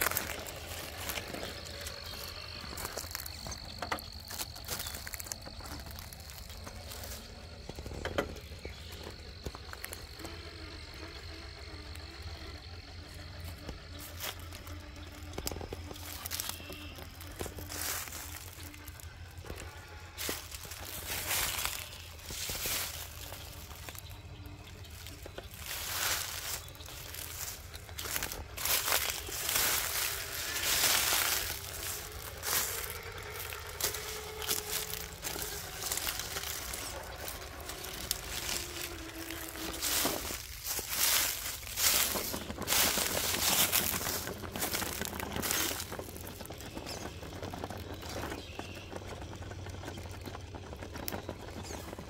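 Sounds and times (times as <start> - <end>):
faint motor whine: 0.0 - 52.0
tyres crunching over leaves and wood: 0.0 - 52.0.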